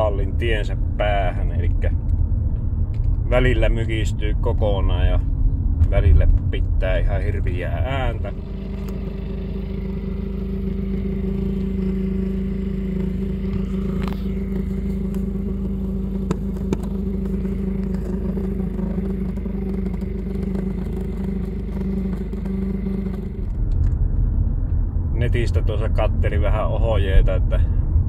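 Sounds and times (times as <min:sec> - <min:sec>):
blower motor droning hum: 0:00.0 - 0:28.0.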